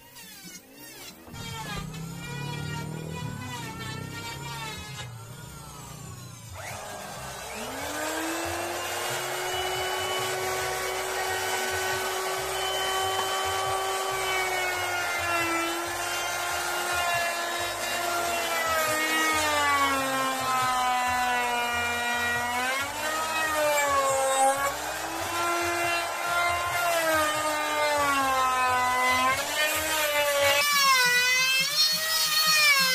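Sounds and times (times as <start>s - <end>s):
wood router whining: 0.0s - 32.9s.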